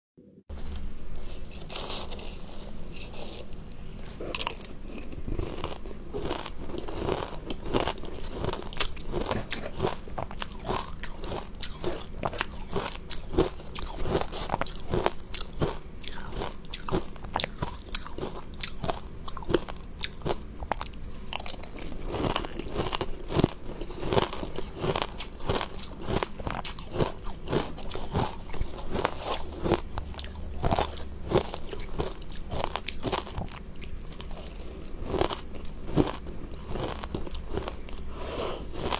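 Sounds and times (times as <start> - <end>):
crunching ice: 1.3 - 38.9.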